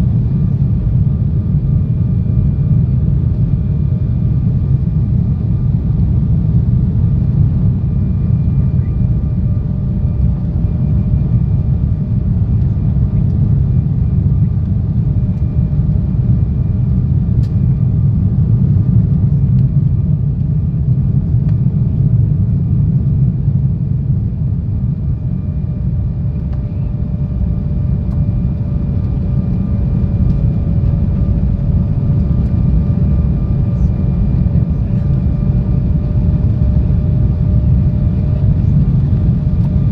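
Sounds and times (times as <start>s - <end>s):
faint turbofan whine: 0.0s - 39.9s
low rumble of airflow and engines: 0.0s - 39.9s.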